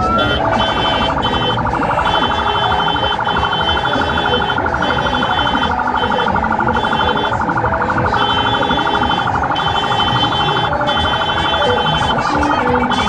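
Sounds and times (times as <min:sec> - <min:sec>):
electronic siren wailing and warbling: 0:00.0 - 0:13.0
street noise: 0:00.0 - 0:13.0.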